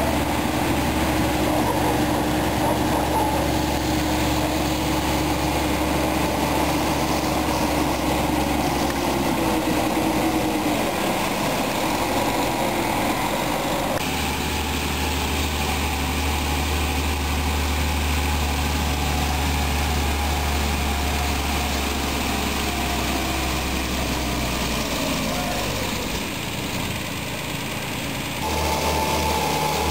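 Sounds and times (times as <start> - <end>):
diesel engines running: 0.0 - 29.9.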